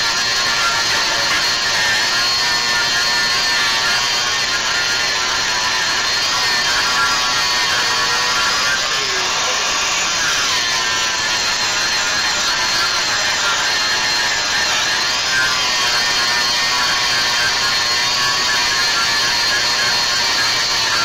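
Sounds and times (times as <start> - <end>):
angle grinder grinding metal: 0.0 - 21.0.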